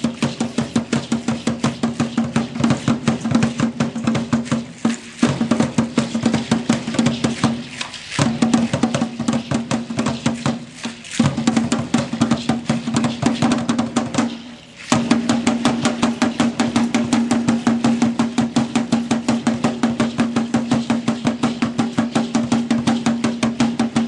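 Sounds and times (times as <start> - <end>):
hand drum beating fast rhythm: 0.0 - 24.0.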